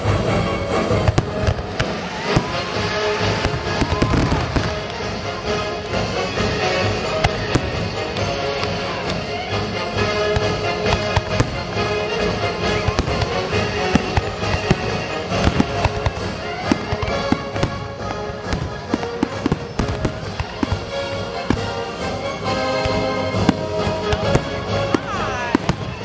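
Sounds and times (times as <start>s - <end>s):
fireworks bursting and crackling: 0.0s - 26.0s
music playing: 0.0s - 26.0s.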